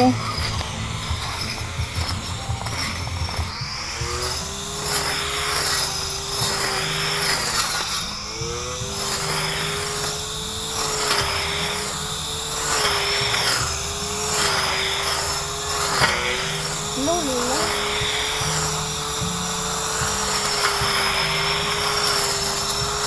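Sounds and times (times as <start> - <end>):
grass trimmer motor whine: 0.0 - 23.0
trimmer swishing through grass: 0.0 - 23.0.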